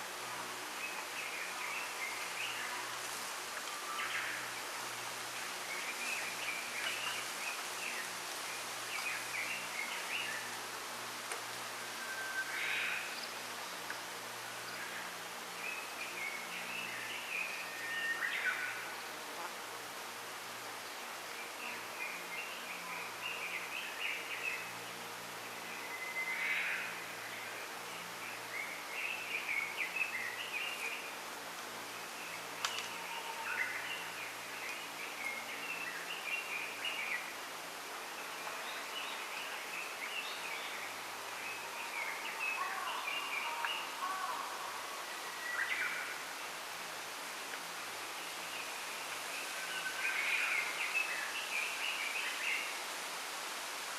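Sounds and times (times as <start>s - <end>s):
songbirds chirping: 0.0s - 53.9s
steady background hiss: 0.0s - 53.9s.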